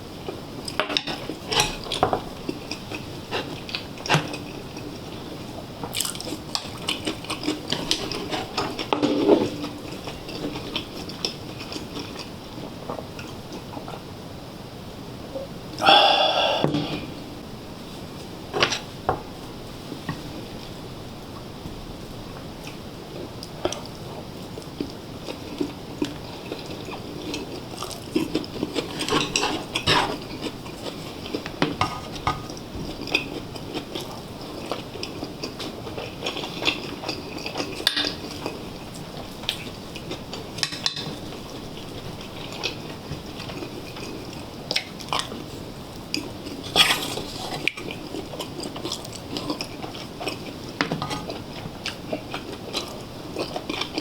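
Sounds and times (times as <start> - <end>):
person chewing food: 0.6 - 14.0, 22.6 - 54.0.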